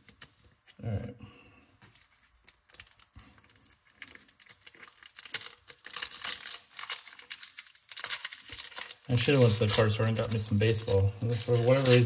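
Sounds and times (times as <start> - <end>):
plastic packaging crinkling: 1.9 - 12.0.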